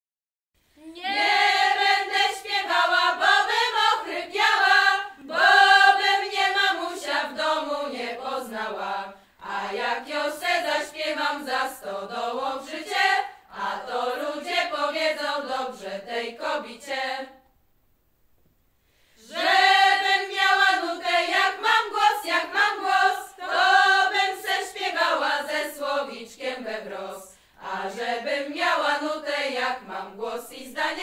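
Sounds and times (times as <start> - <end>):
women singing unaccompanied: 0.8 - 17.4, 19.2 - 31.0.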